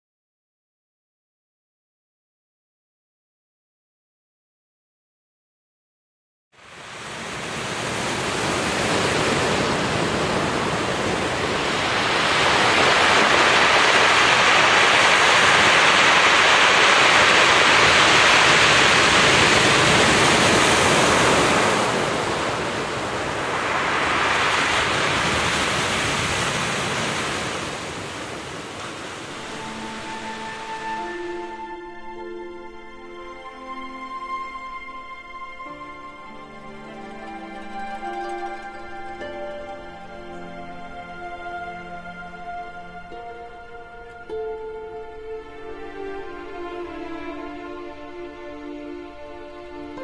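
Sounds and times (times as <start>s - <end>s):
ocean waves rushing in: 6.6s - 50.0s.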